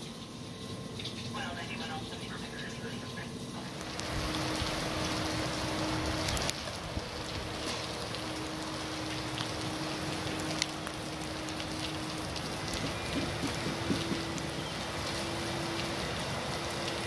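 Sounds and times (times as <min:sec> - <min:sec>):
rain falling on wet street: 0:00.0 - 0:17.0.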